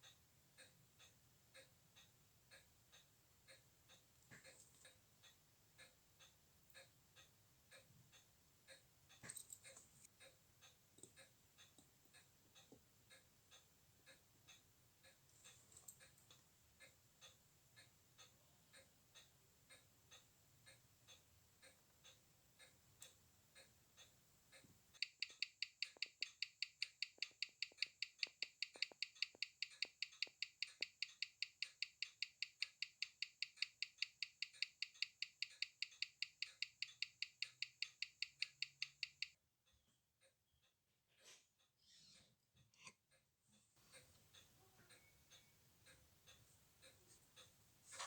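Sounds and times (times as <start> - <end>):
watch ticking: 0.0 - 39.4, 43.8 - 48.0.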